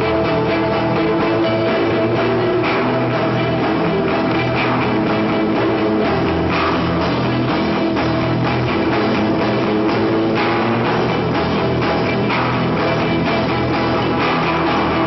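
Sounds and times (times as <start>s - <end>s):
drum-kit beat: 0.0s - 15.0s
guitar: 0.0s - 15.0s
rock band playing live: 0.0s - 15.0s.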